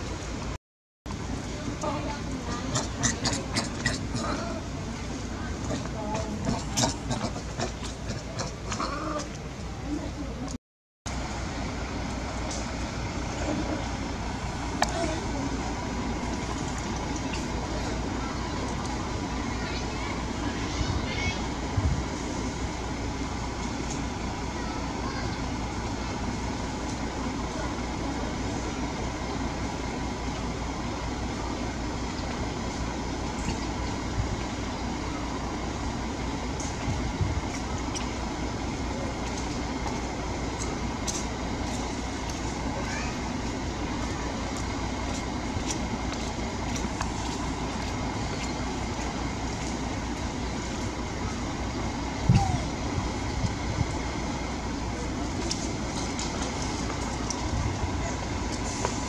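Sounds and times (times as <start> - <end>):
outdoor rumble and hiss: 0.0 - 59.0.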